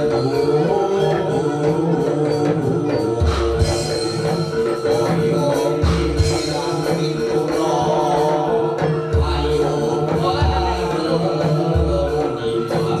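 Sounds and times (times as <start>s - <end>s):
gamelan music: 0.0s - 13.0s
hand drums beating: 0.0s - 13.0s.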